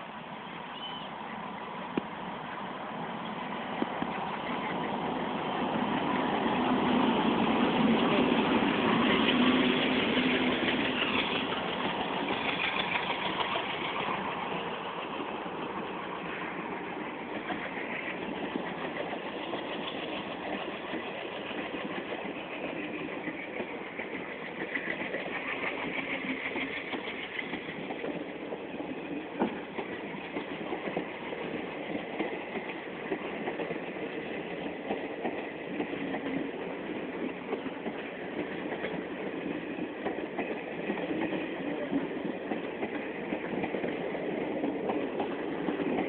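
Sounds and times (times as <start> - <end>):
diesel locomotive engine running: 1.2 - 46.0.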